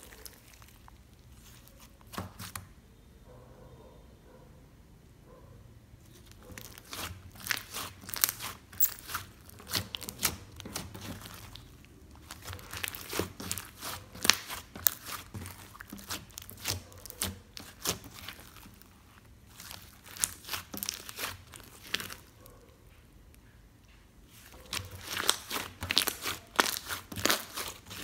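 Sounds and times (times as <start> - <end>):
slime squishing with sticky pops: 0.0 - 2.6, 6.0 - 22.4, 24.2 - 28.0.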